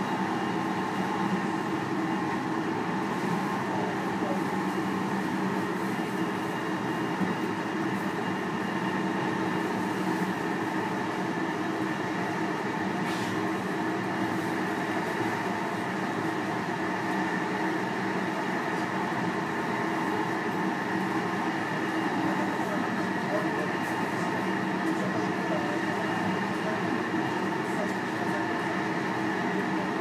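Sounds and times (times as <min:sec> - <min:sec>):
electric train hum: 0:00.0 - 0:30.0.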